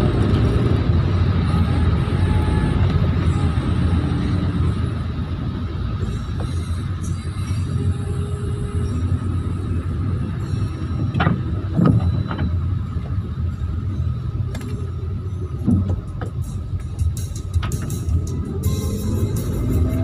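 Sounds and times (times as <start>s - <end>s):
car engine rumble in cabin: 0.0s - 20.0s.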